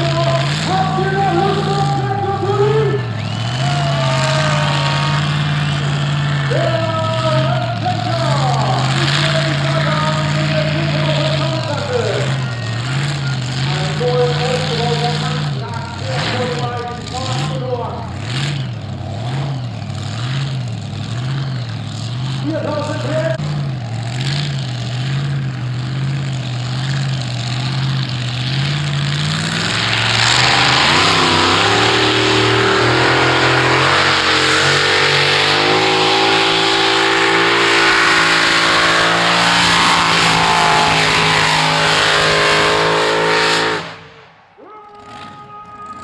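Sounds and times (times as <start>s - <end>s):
tractor engines revving: 0.0s - 46.0s.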